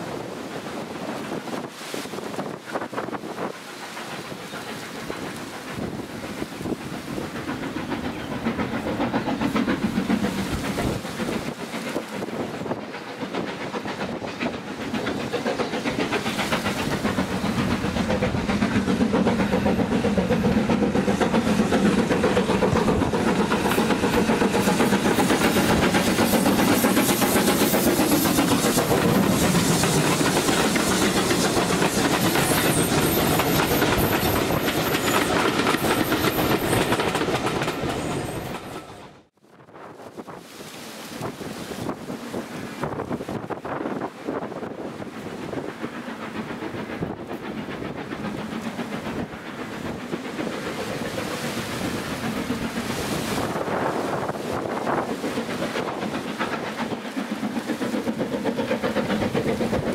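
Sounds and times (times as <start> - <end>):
steam hiss: 0.0 - 39.1, 40.8 - 59.9
steam train running past: 0.0 - 59.9.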